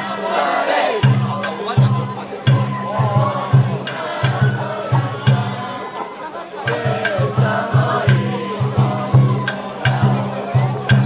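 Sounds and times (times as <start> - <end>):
bamboo flute melody: 0.0 - 11.0
steady drum beat: 0.9 - 5.8, 6.6 - 11.0.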